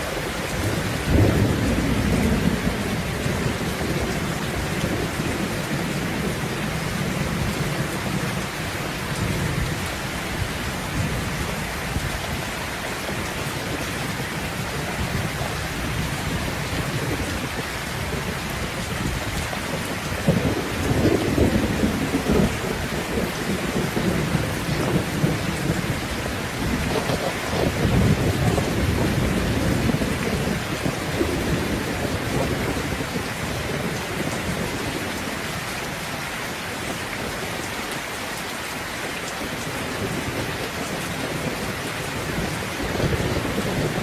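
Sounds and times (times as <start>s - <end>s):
thunder rumbling: 0.0s - 36.2s, 39.5s - 44.0s
heavy rain falling: 0.0s - 44.0s.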